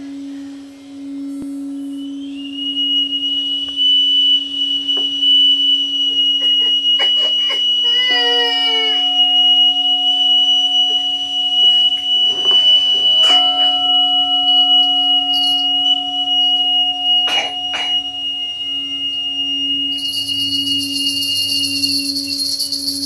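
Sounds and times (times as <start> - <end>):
high flute whistle: 0.0 - 23.0
singing bowl humming: 0.0 - 23.0
small hand bells jingling: 3.7 - 23.0.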